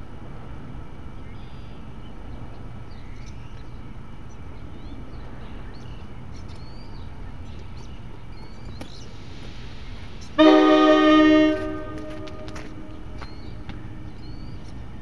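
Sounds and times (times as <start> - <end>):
small birds chirping: 1.2 - 10.4, 11.8 - 15.0.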